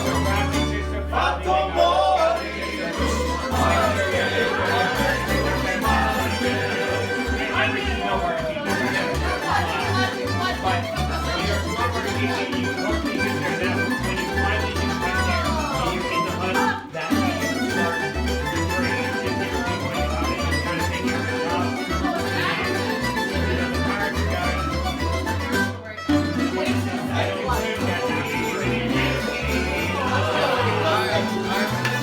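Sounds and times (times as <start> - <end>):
plucked bass line: 0.0 - 32.0
plucked lute ensemble playing: 0.0 - 32.0.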